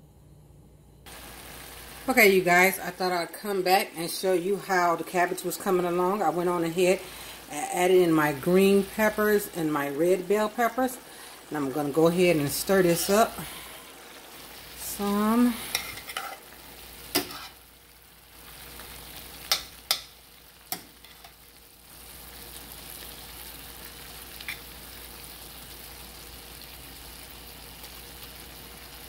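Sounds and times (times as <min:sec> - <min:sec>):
cabbage sizzling: 0:01.1 - 0:29.0.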